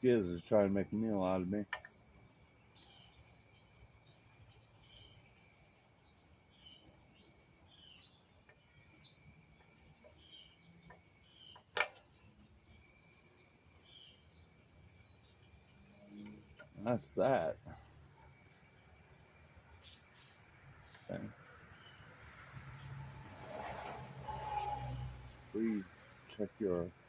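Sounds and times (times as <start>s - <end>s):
insect chirring: 0.0s - 27.0s.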